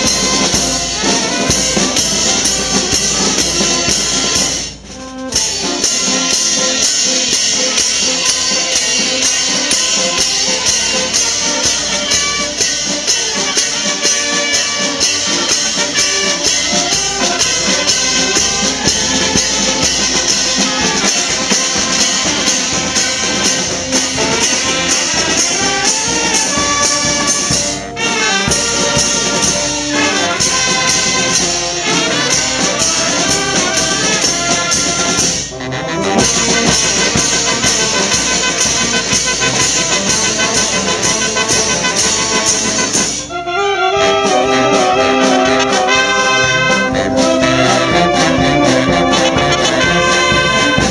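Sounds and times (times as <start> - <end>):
brass band playing: 0.0 - 50.9.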